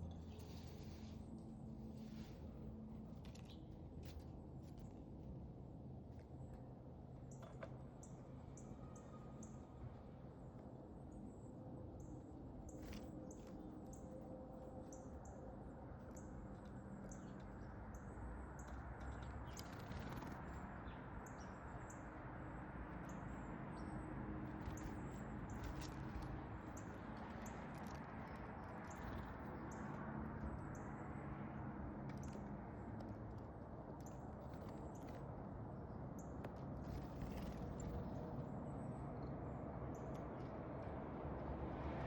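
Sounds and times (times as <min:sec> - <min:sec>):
songbirds chirping: 0:06.3 - 0:40.9.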